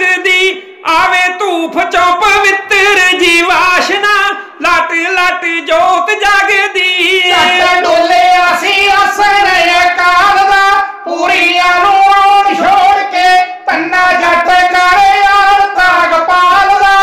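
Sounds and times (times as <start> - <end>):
two men singing: 0.0 - 17.0.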